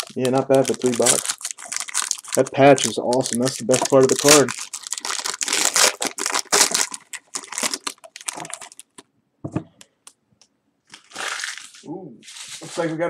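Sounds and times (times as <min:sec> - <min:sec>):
foil wrapper tearing and crinkling: 0:00.0 - 0:09.0, 0:10.9 - 0:12.9.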